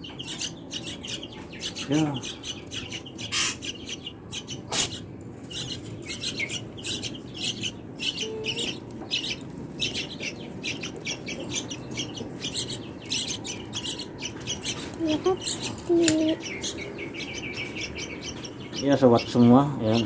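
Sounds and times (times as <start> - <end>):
chicks begging with shrill chirps: 0.0 - 20.0.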